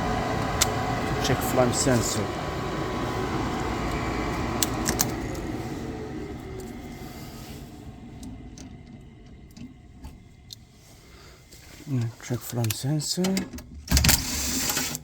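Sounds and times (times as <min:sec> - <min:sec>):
furnace fan motor whirring down: 0:00.0 - 0:13.0.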